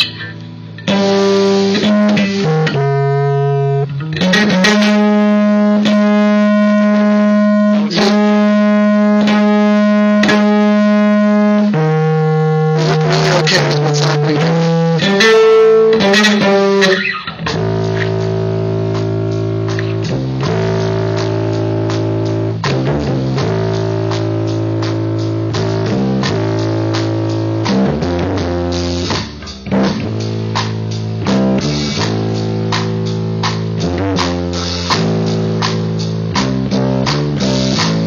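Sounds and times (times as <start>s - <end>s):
live band music: 0.0s - 38.0s.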